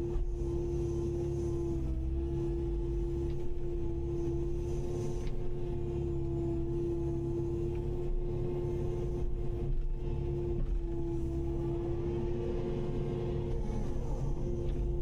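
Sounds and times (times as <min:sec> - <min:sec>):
constant high whine: 0:00.0 - 0:15.0
excavator diesel engine rumbling: 0:00.0 - 0:15.0.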